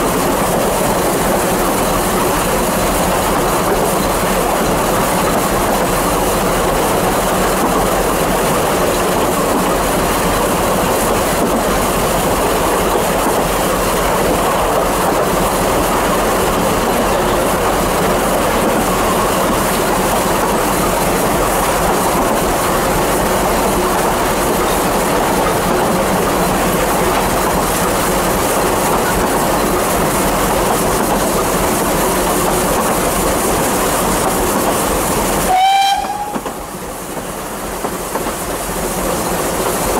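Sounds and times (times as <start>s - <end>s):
clickety-clack over rail joints: 0.0s - 39.9s
train wheels on track: 0.0s - 39.9s.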